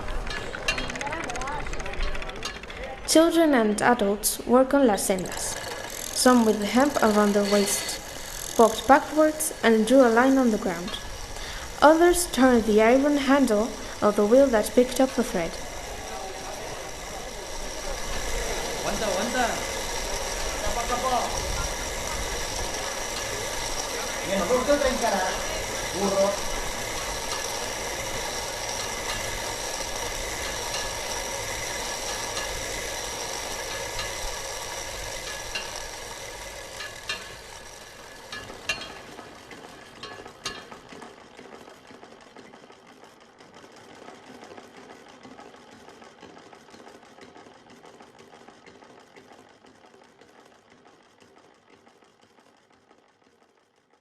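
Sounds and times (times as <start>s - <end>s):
spinning wheel whirring: 0.0s - 54.0s.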